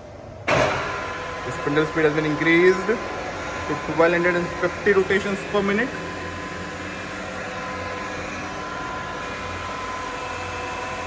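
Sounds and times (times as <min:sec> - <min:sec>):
milling machine spindle whining: 0:00.7 - 0:11.0.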